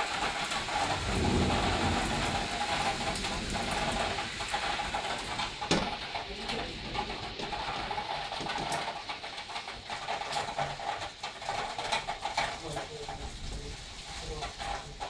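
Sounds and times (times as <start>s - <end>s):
drops tapping on windows: 0.0s - 15.0s
heavy rain hiss: 0.0s - 15.0s.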